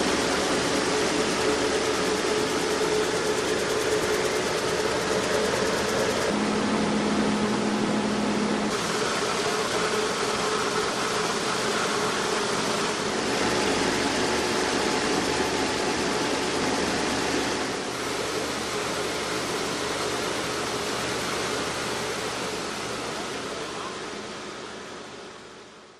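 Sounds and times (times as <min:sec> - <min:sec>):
rice mill running: 0:00.0 - 0:06.4, 0:08.7 - 0:23.9.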